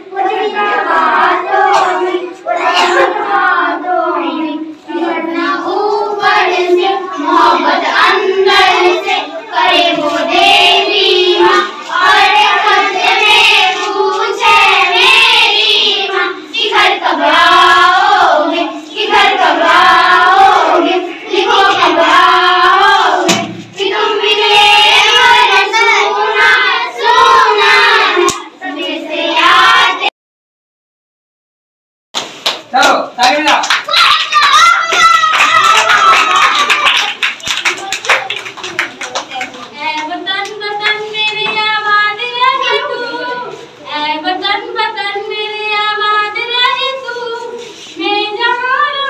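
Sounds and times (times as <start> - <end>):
children singing in chorus: 0.0 - 30.1, 39.8 - 49.0.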